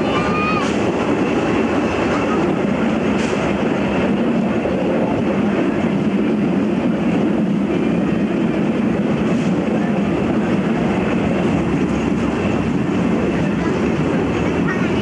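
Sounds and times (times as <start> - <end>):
train running along track: 0.0 - 15.0.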